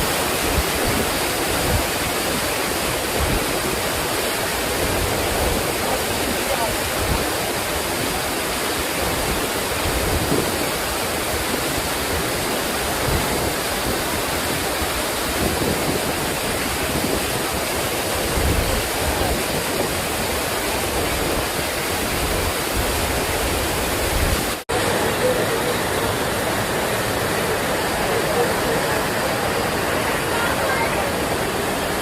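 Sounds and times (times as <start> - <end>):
waterfall crashing: 0.0 - 32.0.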